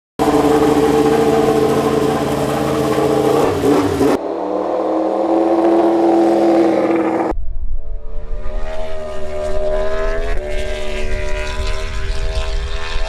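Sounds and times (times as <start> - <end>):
racing engine at high revs: 0.2 - 13.0.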